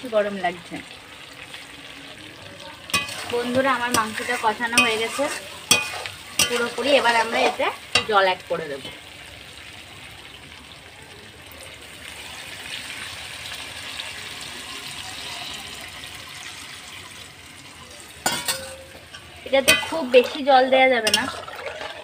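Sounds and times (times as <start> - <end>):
water hissing into hot pan: 0.0 - 22.0.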